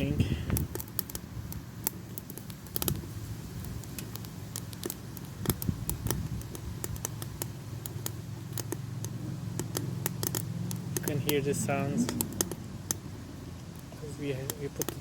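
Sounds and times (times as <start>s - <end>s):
low steady fire rumble: 0.0s - 15.0s
wood fire crackling and popping: 0.0s - 15.0s.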